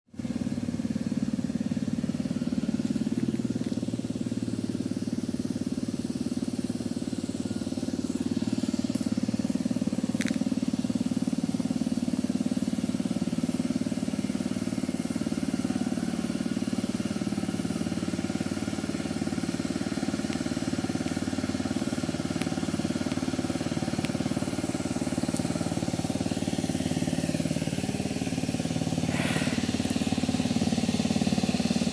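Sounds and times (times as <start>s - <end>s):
vehicle engine running under load: 0.1s - 31.9s.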